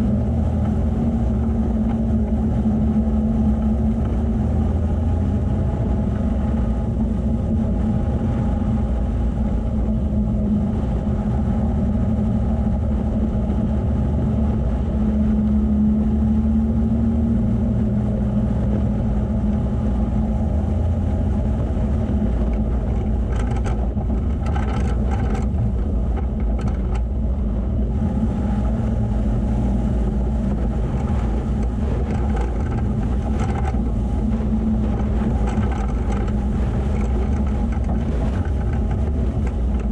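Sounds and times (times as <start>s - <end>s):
vehicle engine driving on sand: 0.0s - 39.9s.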